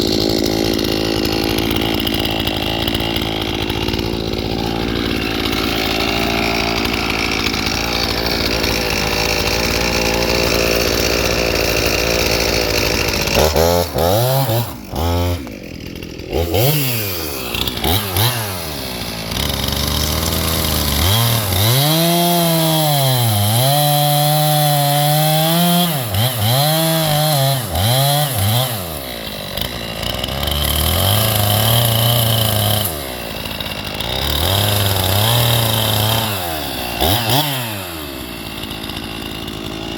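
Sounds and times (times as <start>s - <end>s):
electric chainsaw cutting: 0.0s - 39.9s.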